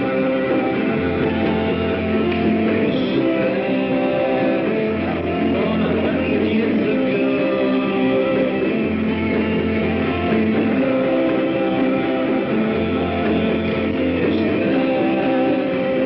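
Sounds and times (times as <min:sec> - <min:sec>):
guitar-led rock music: 0:00.0 - 0:16.0.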